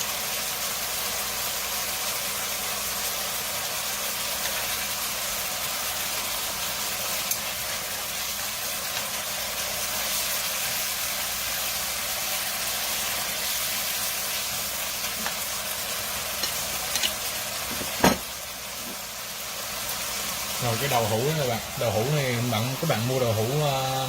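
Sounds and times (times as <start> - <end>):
sauce sizzling in a pan: 0.0 - 24.0.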